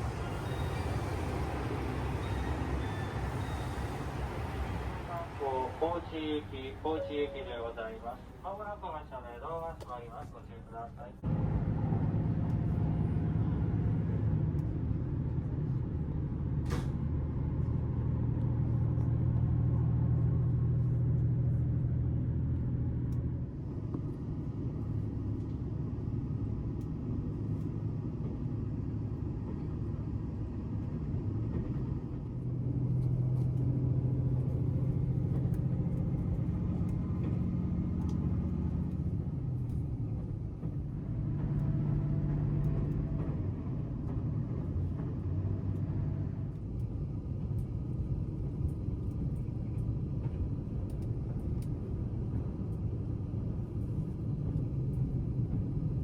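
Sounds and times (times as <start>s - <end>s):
diesel railcar engine rumbling: 0.0s - 56.0s.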